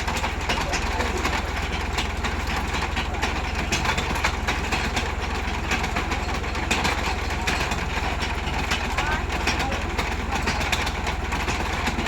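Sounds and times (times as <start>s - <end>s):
rapid clicking clatter: 0.0s - 12.0s
tractor diesel engine running: 0.0s - 12.0s.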